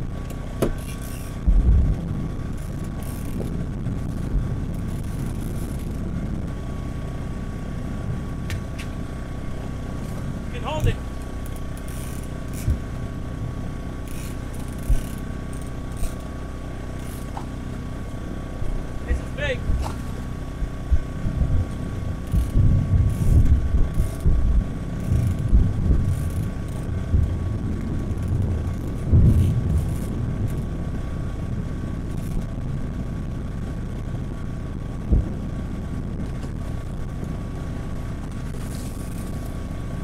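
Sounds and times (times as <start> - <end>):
outboard motor idling: 0.0 - 40.0
wind gusting on microphone: 0.0 - 40.0.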